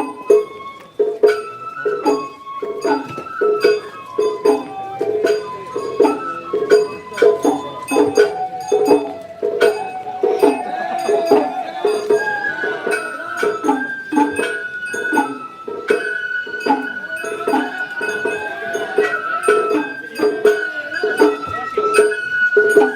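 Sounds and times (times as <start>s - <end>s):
high flute melody: 0.0s - 22.9s
percussive strikes: 0.0s - 22.9s.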